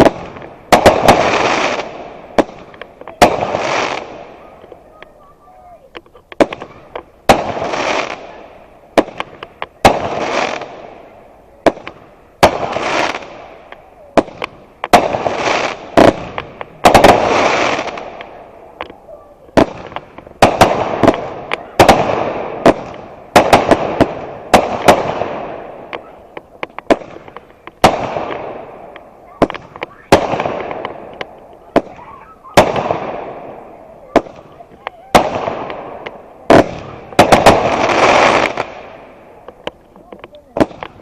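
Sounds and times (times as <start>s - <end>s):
firework pops: 0.0s - 5.2s, 5.8s - 8.4s, 9.0s - 10.9s, 11.6s - 41.0s
fireworks banging: 0.0s - 41.0s.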